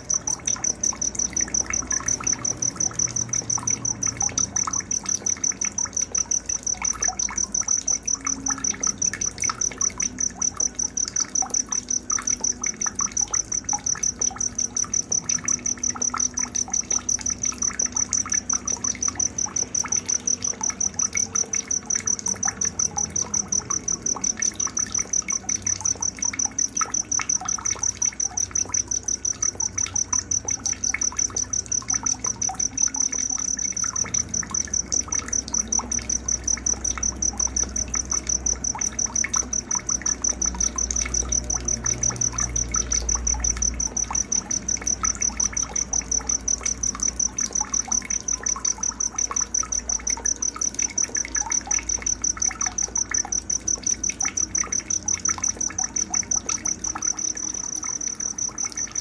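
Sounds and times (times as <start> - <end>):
night insect chirping: 0.0 - 59.0.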